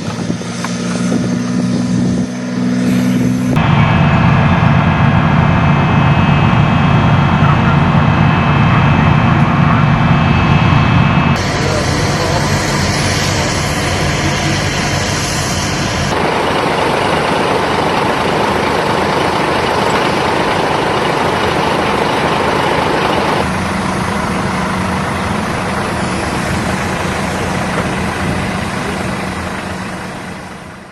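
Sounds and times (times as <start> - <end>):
low hum: 0.0 - 30.8
heavy military engines running: 0.0 - 30.9.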